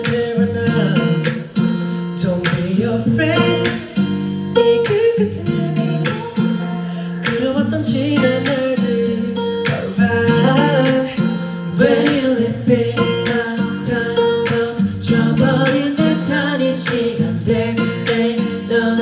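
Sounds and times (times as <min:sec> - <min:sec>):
pop music: 0:00.0 - 0:19.0
strummed acoustic guitar: 0:00.0 - 0:19.0.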